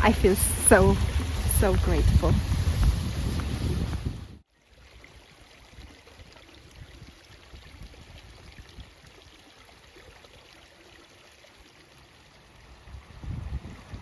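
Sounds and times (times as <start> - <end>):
stream running water: 0.0 - 14.0.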